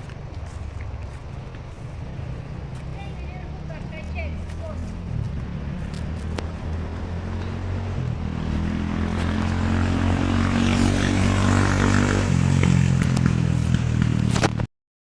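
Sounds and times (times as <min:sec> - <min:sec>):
engine running: 0:00.0 - 0:14.7.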